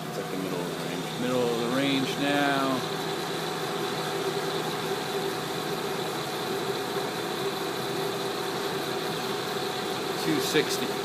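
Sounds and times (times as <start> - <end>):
milling machine running: 0.0 - 11.0
spindle whine: 0.0 - 11.0.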